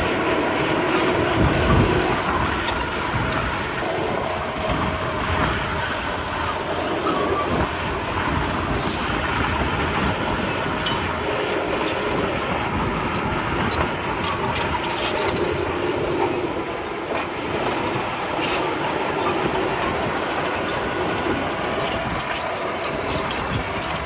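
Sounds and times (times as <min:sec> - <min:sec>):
diesel engine running: 0:00.0 - 0:24.0
steel tracks clanking and squeaking: 0:00.0 - 0:24.0.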